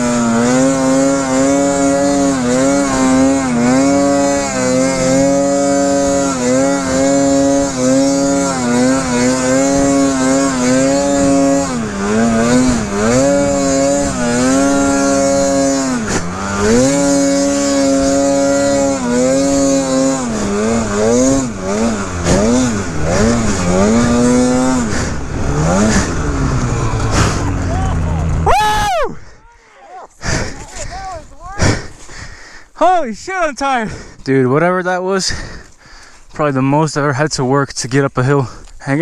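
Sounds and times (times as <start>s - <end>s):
snowmobile engine revving: 0.0s - 29.1s, 30.2s - 33.8s.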